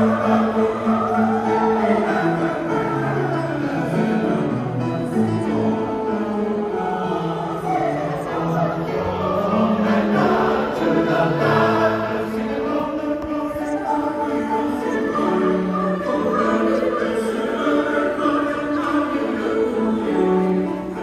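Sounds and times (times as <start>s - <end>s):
choir singing held notes: 0.0s - 21.0s
instrumental accompaniment: 0.0s - 21.0s.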